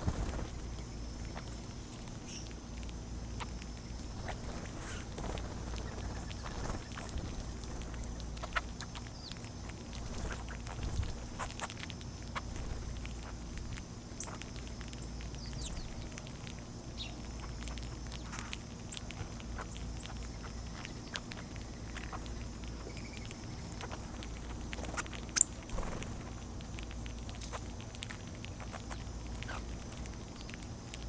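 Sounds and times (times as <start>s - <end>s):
steady low rumble: 0.0s - 31.0s
birds chip notes: 0.1s - 31.0s
light ticks and clicks: 0.6s - 31.0s.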